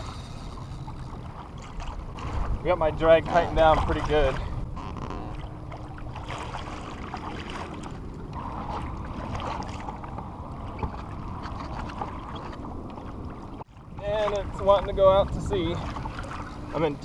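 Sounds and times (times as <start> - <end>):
water splashing against kayak: 0.0 - 17.0
wind on microphone: 0.0 - 17.0.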